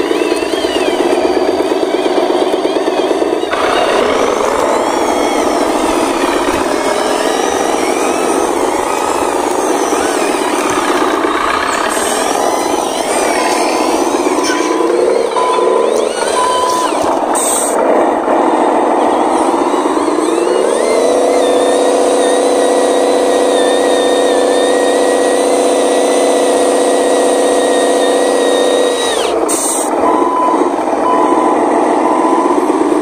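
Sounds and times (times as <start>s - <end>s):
pulsing reversing beep: 0.0s - 17.8s, 18.4s - 29.3s, 29.9s - 33.0s
electric drive whine: 0.0s - 33.0s
simulated diesel engine revving: 0.0s - 33.0s.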